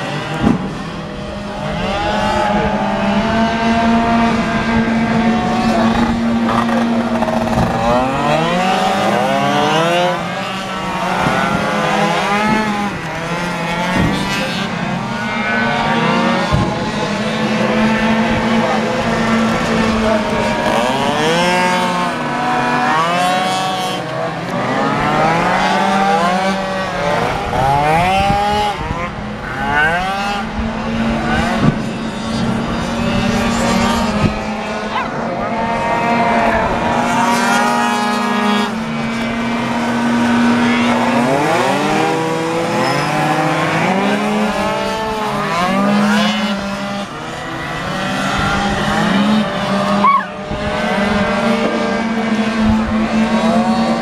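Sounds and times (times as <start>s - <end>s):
racing scooter engines: 0.0s - 54.0s.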